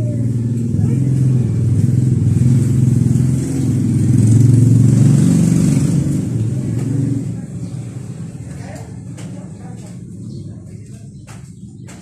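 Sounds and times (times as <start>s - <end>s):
motor scooter engine running: 0.0s - 11.9s.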